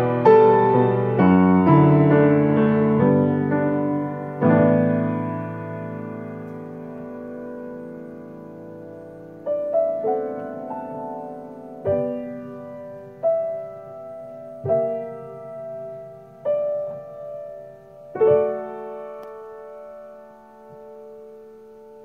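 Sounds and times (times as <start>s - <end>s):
grand piano chords ringing: 0.0s - 22.0s.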